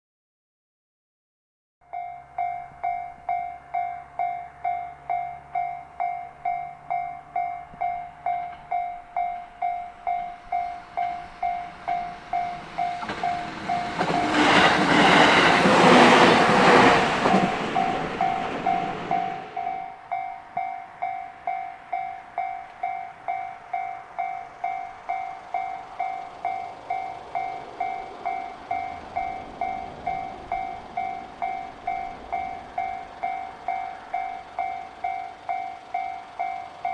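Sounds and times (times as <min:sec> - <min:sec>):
level crossing bell ringing: 0:01.9 - 0:14.6, 0:17.5 - 0:36.9
train passing with clattering wheels: 0:01.9 - 0:36.9.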